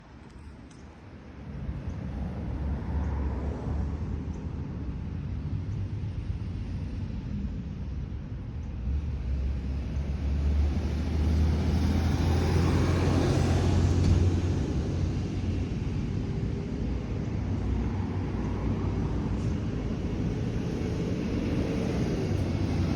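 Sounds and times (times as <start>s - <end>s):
jet engines at takeoff: 0.0s - 22.9s.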